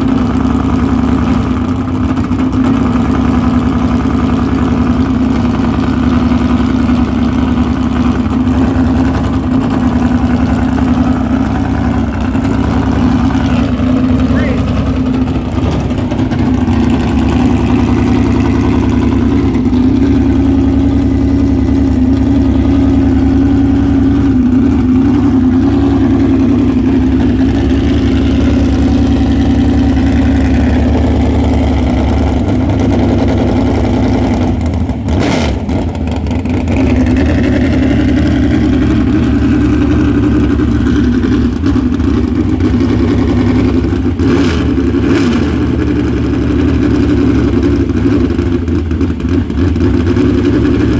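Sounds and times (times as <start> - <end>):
car engine running: 0.0 - 50.9.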